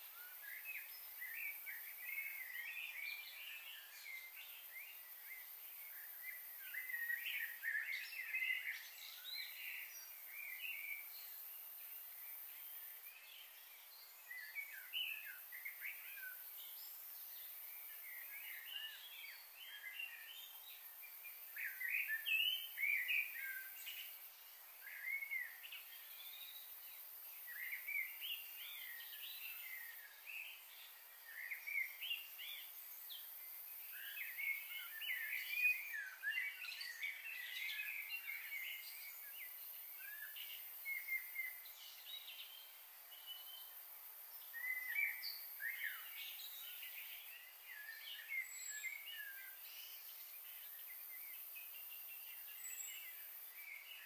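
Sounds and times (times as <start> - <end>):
faint steady hiss: 0.0 - 54.0
small birds chirping: 0.0 - 54.0.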